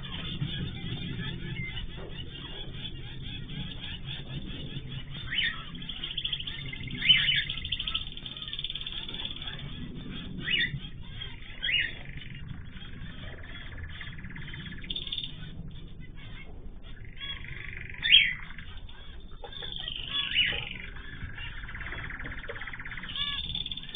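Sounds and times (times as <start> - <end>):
cage birds chirping: 0.0 - 23.9
loud sharp bird calls: 0.0 - 23.9.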